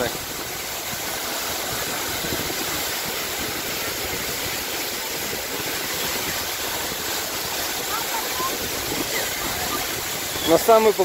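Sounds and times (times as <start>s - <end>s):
waterfall rushing onto rocks: 0.0s - 11.0s.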